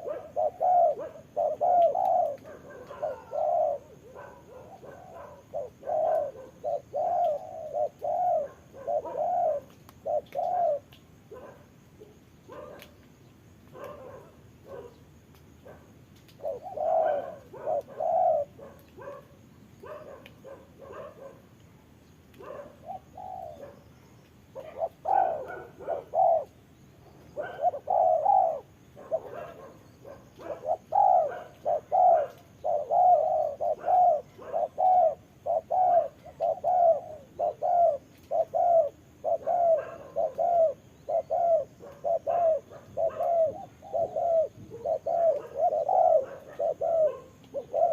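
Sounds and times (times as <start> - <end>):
doves cooing: 0.0 - 13.1, 13.7 - 21.6, 22.3 - 23.9, 24.5 - 47.9.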